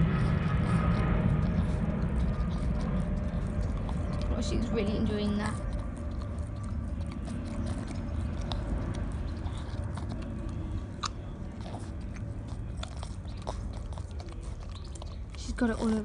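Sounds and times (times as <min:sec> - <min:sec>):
dog licking and smacking: 0:00.0 - 0:16.0
low steady rumble: 0:00.0 - 0:16.0.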